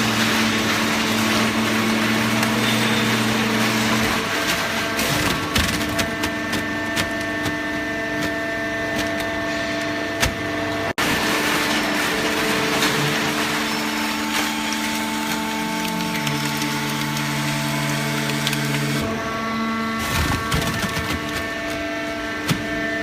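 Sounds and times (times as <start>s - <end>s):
paper baler machine hum: 0.0s - 23.0s.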